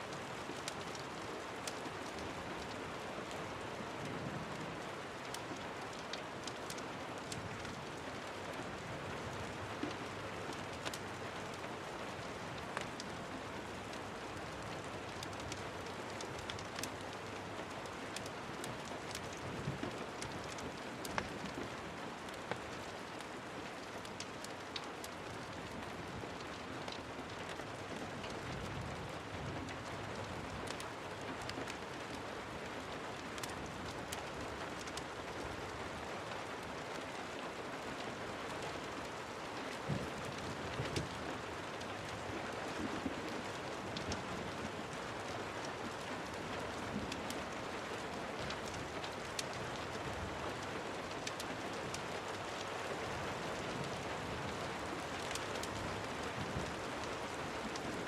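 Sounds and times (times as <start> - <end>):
raindrops ticking: 0.0 - 58.0
steady rain: 0.0 - 58.0.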